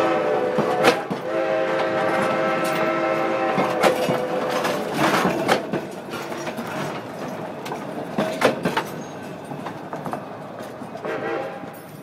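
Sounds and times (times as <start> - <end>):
steam train rumbling on track: 0.0 - 12.0.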